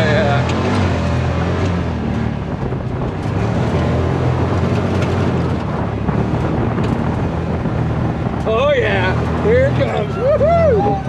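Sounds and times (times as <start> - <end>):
engine droning: 0.0 - 11.0
wind buffeting microphone: 0.0 - 11.0.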